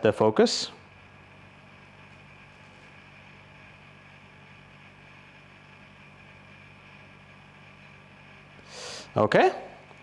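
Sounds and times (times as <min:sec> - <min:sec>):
low electrical drone: 0:00.0 - 0:10.0.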